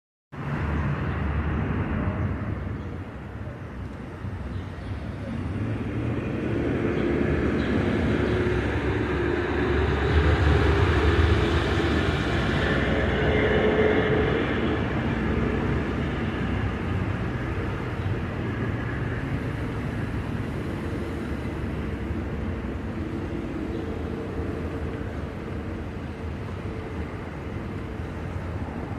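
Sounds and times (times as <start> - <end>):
vehicle passing by: 0.4 - 28.9.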